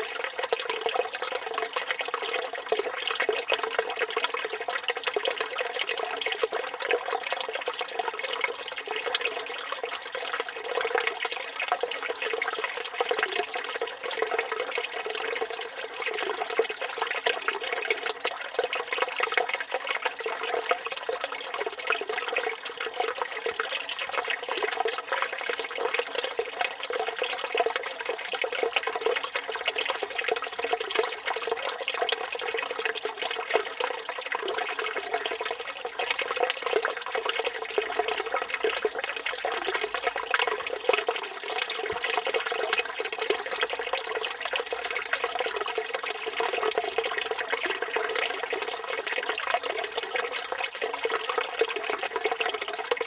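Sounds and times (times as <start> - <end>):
fountain water splashing into basin: 0.0 - 53.0.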